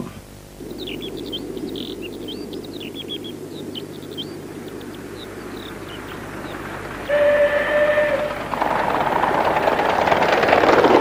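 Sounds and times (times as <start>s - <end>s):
small birds chirping: 0.0s - 11.0s
low rushing noise: 0.2s - 11.0s.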